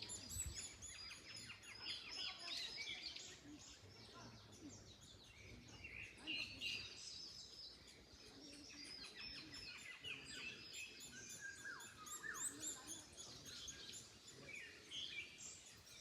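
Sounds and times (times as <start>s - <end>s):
faint wind in trees: 0.0s - 16.0s
songbirds singing and chirping: 0.0s - 16.0s.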